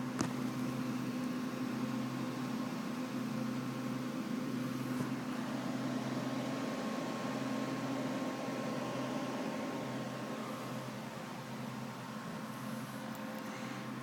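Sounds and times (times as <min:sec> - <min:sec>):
computer fans whirring: 0:00.0 - 0:14.0.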